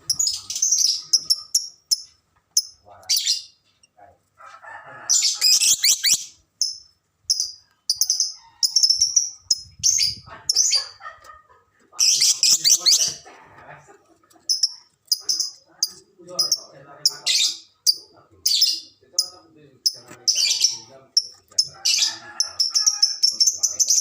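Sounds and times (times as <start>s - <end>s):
lovebirds chirping: 0.0s - 4.2s, 5.1s - 24.0s.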